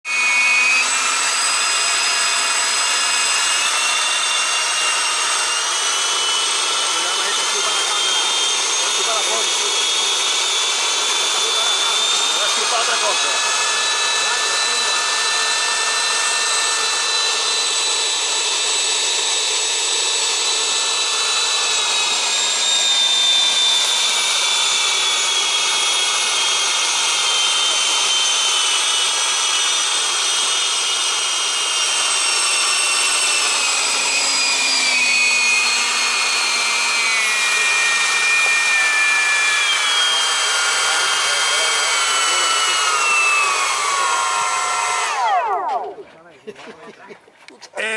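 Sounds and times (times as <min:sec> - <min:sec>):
high turbine whine: 0:00.1 - 0:46.7.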